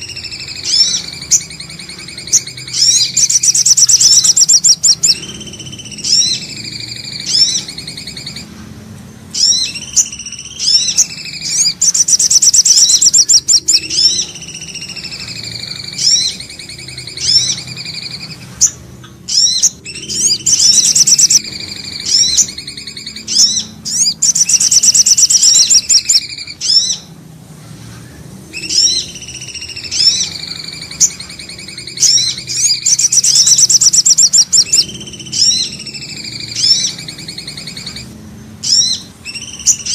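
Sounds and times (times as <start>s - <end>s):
short rising bird chirps: 0.0s - 8.5s, 9.3s - 39.9s
birds singing high trills: 0.0s - 39.9s.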